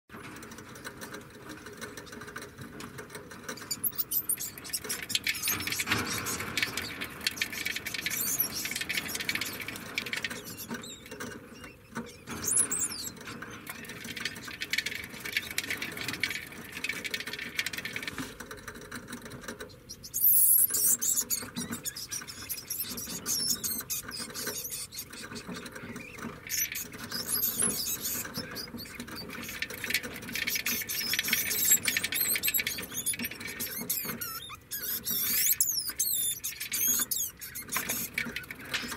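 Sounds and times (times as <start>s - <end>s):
degu chirping and squealing: 3.5s - 17.8s, 19.6s - 38.9s.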